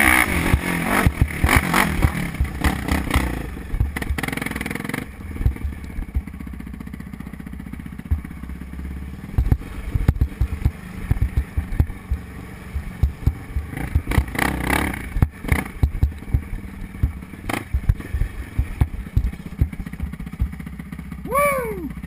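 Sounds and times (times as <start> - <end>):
quad bike engine running: 0.0 - 22.0
low thumps and knocks: 0.4 - 6.5, 7.9 - 8.6, 9.3 - 20.8.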